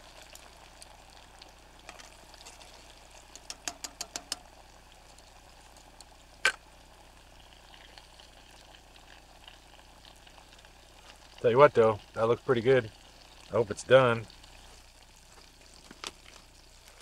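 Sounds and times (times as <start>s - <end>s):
chicken sizzling in hot grease: 0.0s - 17.0s
grease popping: 0.0s - 17.0s.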